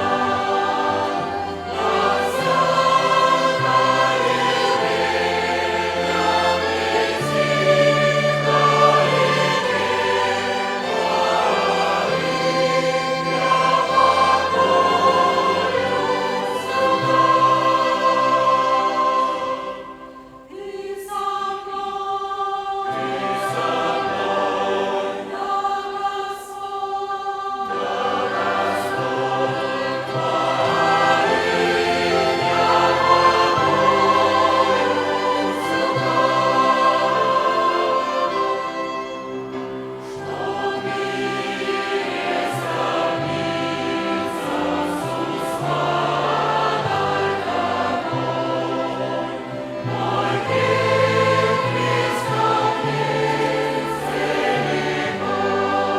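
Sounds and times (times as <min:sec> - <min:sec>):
choir singing a hymn: 0:00.0 - 0:55.9
violin ensemble: 0:00.0 - 0:55.9.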